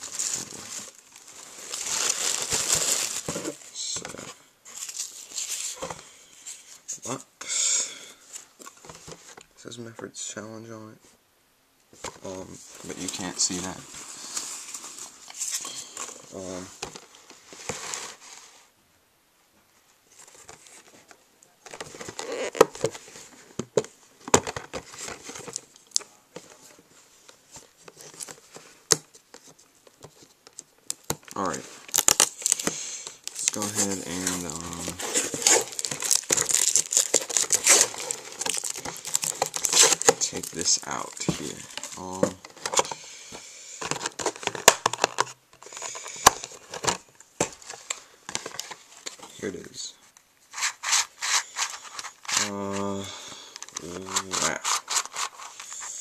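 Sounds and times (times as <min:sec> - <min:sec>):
cardboard packaging rustling: 0:00.0 - 0:06.9, 0:12.0 - 0:18.6, 0:20.1 - 0:49.8, 0:50.5 - 0:56.0.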